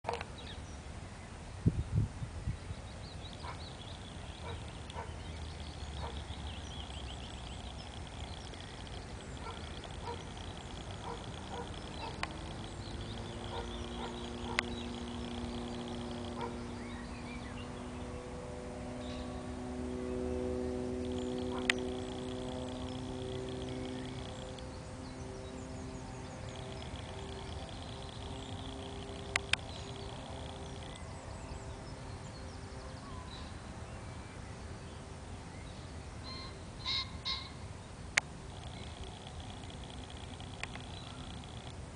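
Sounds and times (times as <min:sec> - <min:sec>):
steady multi-pitched hum: 0:02.2 - 0:41.9
birds calling: 0:02.4 - 0:41.9.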